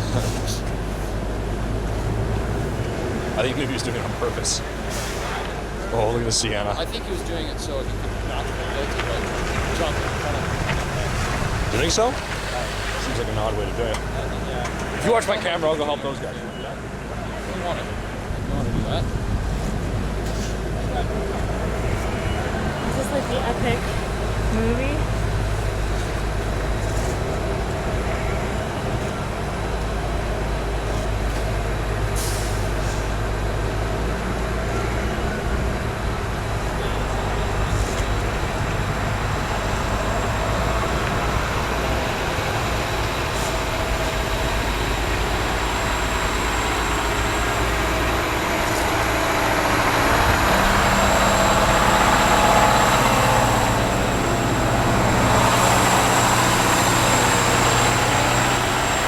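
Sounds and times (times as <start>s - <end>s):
heavy vehicle engine running: 0.0s - 59.0s
traffic noise: 0.0s - 59.0s.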